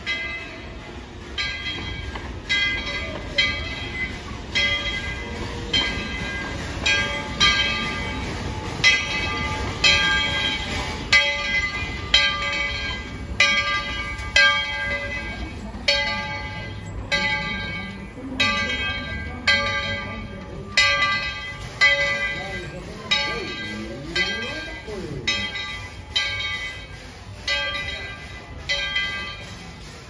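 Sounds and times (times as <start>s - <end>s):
locomotive rumbling past: 0.0s - 30.0s
steam locomotive bell ringing: 0.0s - 30.0s.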